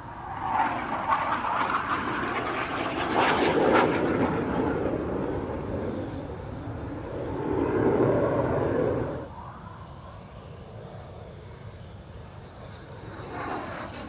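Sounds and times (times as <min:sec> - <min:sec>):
jet roaring overhead: 0:00.0 - 0:14.0.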